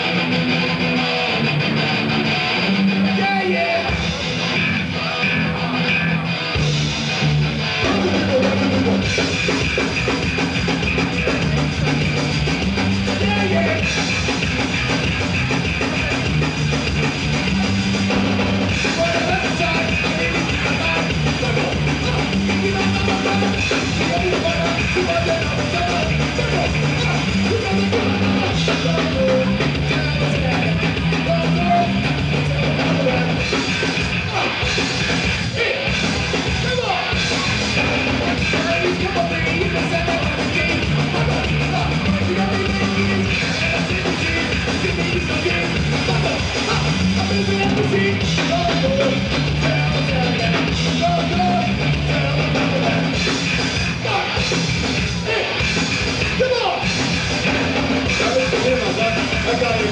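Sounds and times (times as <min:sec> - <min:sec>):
punk rock band playing live: 0:00.0 - 0:59.9.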